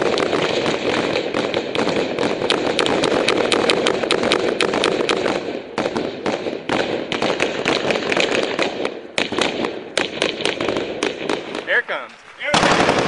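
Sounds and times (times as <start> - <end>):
small-arms gunfire: 0.0 - 11.8, 12.5 - 13.0.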